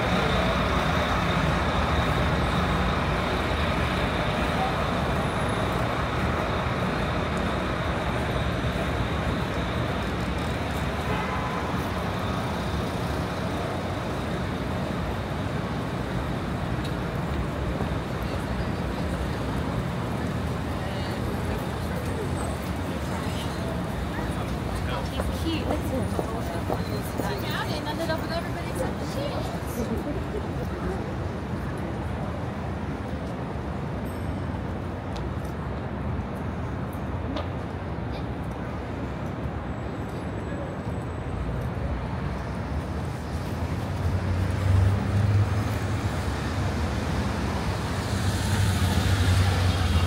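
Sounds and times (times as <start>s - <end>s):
city traffic rumble: 0.0s - 50.0s.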